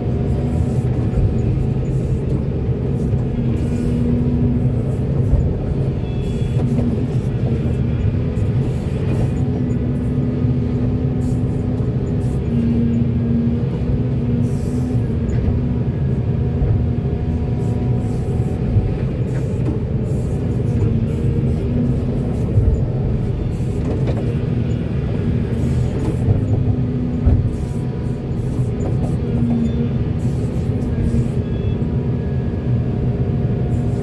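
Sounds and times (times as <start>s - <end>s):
diesel machinery engine rumble: 0.0s - 34.0s.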